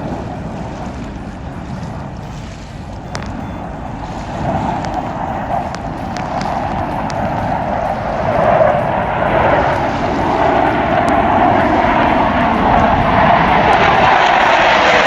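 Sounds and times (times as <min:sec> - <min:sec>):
aircraft engine noise: 0:00.0 - 0:15.0.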